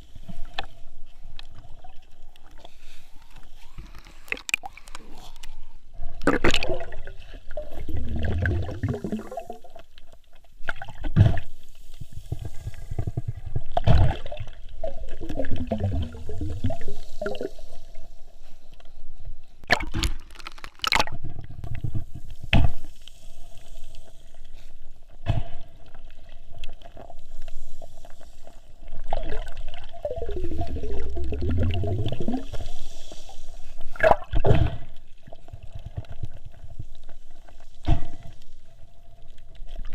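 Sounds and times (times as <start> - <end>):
water bubbling and gurgling: 0.0 - 18.4, 19.6 - 24.5, 25.3 - 39.9.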